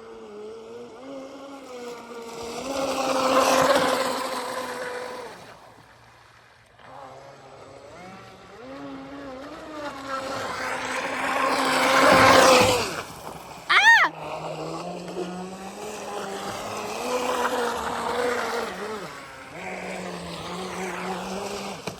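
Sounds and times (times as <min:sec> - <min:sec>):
model boat motor whining: 0:00.0 - 0:21.9.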